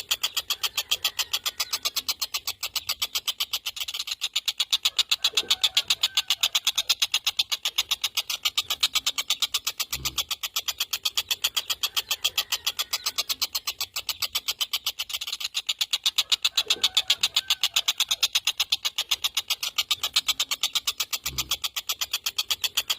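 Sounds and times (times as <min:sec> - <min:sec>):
kingfisher rattling call: 0:00.0 - 0:22.9.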